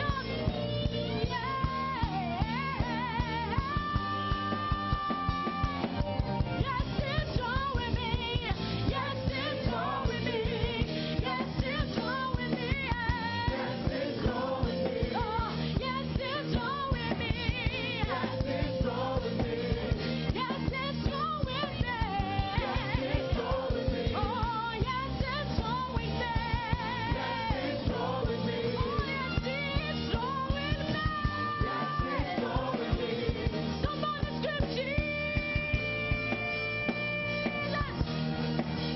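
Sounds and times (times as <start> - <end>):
gospel singing: 0.0 - 38.0
steady drum beat: 0.0 - 38.9.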